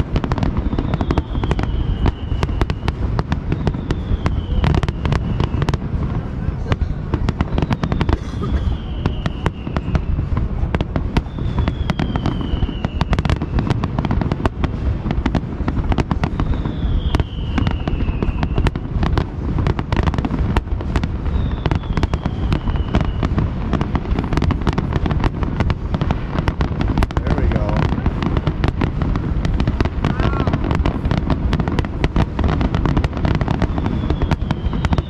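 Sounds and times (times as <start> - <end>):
firework bangs: 0.0 - 35.0
low rumble of booms: 0.0 - 35.0
whistling firework shells: 0.0 - 35.0.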